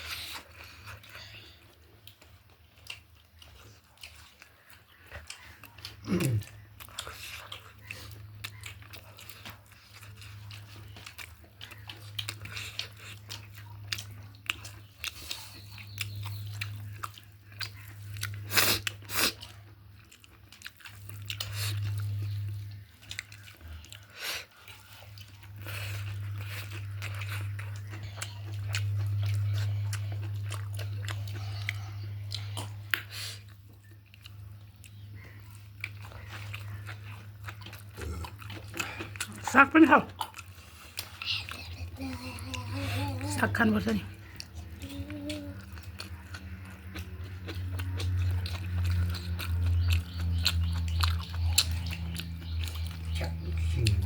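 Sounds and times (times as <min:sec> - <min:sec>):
low steady hum: 0:00.0 - 0:54.0
person chewing and crunching: 0:00.0 - 0:54.0.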